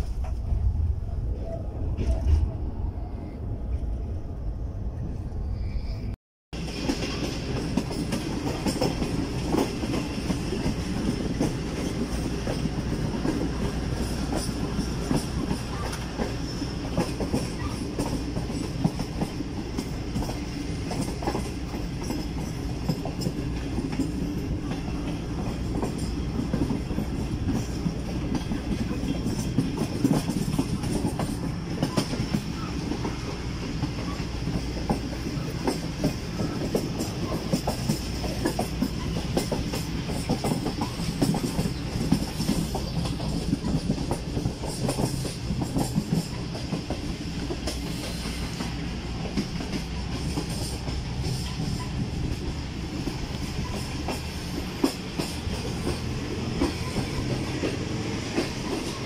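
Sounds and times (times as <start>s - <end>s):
train rumbling on track: 0.0s - 59.0s
wheels clacking over rail joints: 6.6s - 59.0s.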